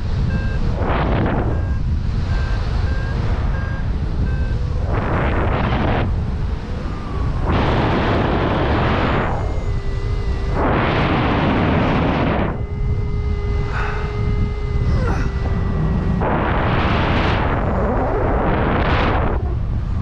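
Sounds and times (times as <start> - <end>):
wind buffeting microphone: 0.0 - 20.0
variometer high beeps: 0.1 - 6.0, 6.6 - 18.8.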